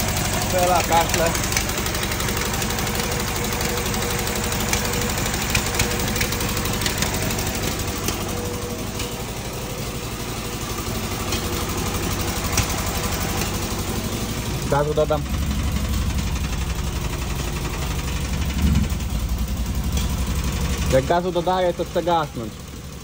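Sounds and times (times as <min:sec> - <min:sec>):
engine idling roughly: 0:00.0 - 0:23.0.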